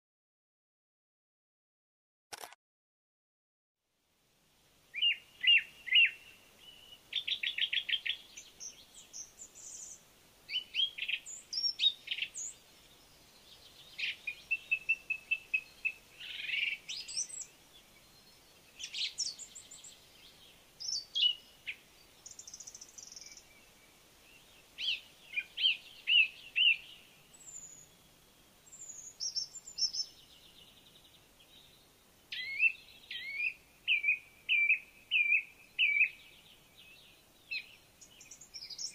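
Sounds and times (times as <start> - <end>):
birdsong with chirps and trills: 4.9 - 38.9.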